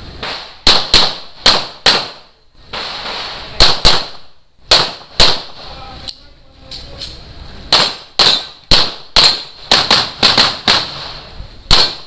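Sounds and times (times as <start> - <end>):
pistol shots with echo: 0.2 - 5.6, 7.7 - 12.0.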